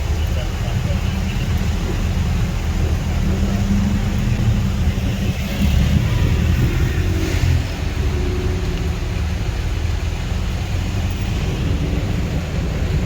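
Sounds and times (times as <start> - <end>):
traffic low rumble: 0.0 - 13.0
tyre hiss on wet road: 0.0 - 13.0.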